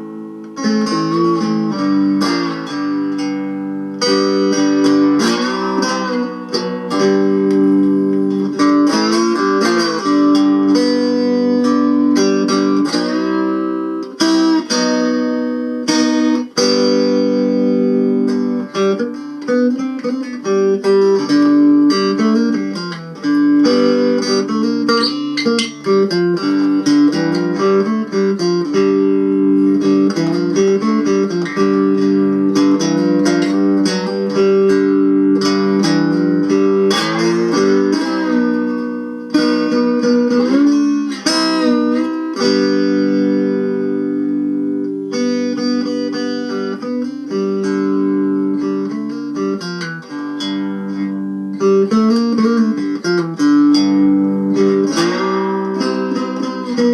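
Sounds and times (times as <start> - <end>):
amplified homemade guitar melody: 0.0 - 56.9.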